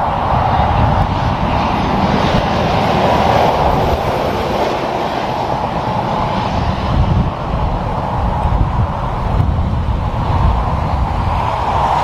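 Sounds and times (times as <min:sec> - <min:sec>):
truck passing at speed: 0:00.0 - 0:12.0.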